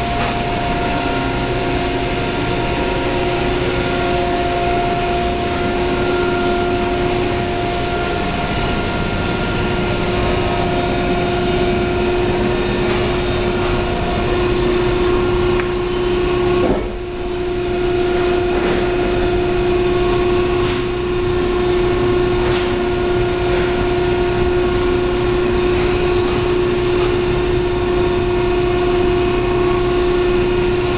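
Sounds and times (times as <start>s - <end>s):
machine hum with whine: 0.0s - 30.9s.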